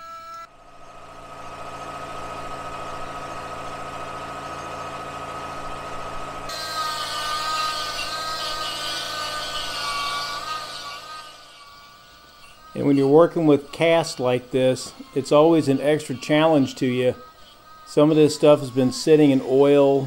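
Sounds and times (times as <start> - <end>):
die grinder whining: 0.0 - 20.0
burr grinding metal: 1.3 - 20.0.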